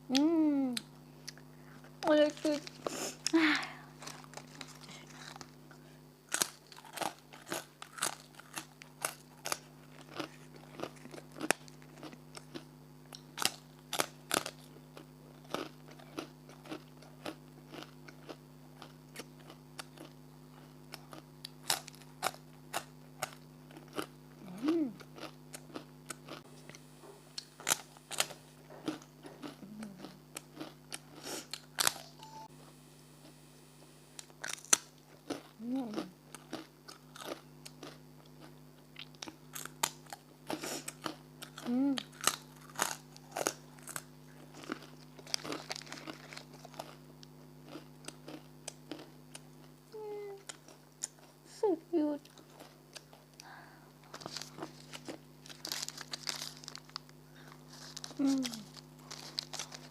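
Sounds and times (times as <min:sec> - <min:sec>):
steady low hum: 0:00.0 - 0:59.9
crunching and chewing snack: 0:00.1 - 0:33.4, 0:34.1 - 0:49.8, 0:50.4 - 0:51.5, 0:52.2 - 0:59.9.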